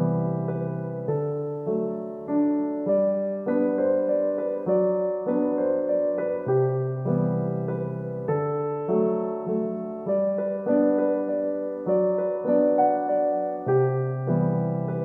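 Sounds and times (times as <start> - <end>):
slow piano-like keyboard notes: 0.0 - 15.0.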